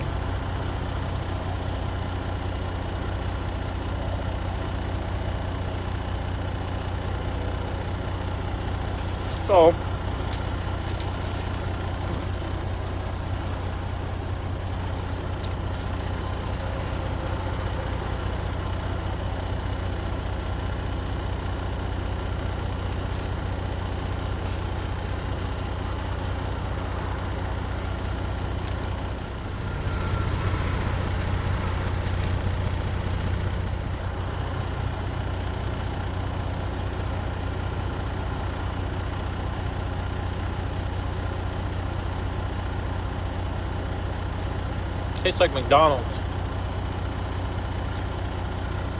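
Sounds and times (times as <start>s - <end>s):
truck diesel engine idling: 0.0s - 48.9s.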